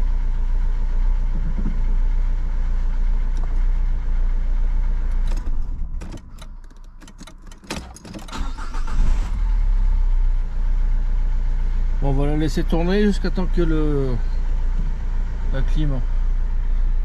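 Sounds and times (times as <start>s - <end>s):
diesel engine idling: 0.0s - 7.0s, 8.3s - 17.0s.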